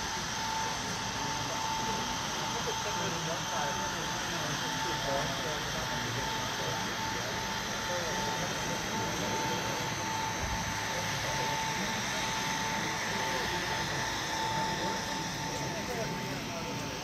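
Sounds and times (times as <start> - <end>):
chatter of many people: 0.0 - 17.0
constant high tone: 0.0 - 17.0
steady background noise: 0.0 - 17.0.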